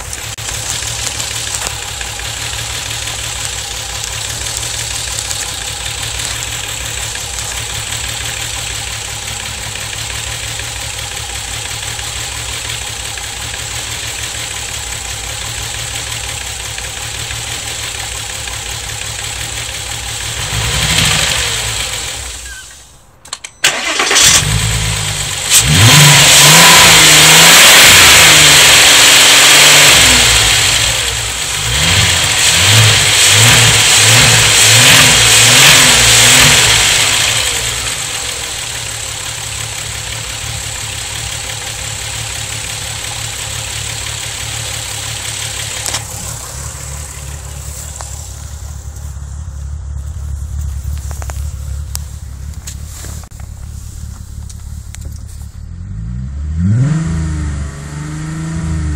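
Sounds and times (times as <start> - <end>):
engine revving: 0.0 - 22.6, 23.6 - 58.9
car engine idling roughly: 0.0 - 22.8, 23.7 - 55.8
engine cranking: 0.0 - 55.8.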